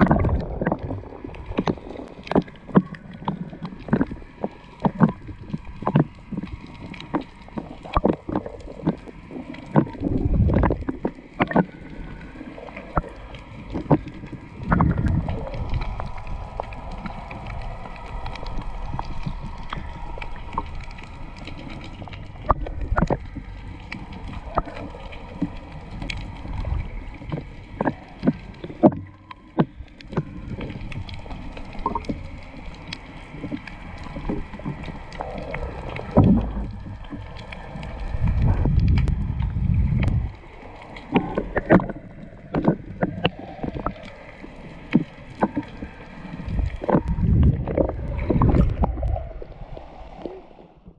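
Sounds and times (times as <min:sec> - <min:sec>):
underwater rumble of moving water: 0:00.0 - 0:50.9.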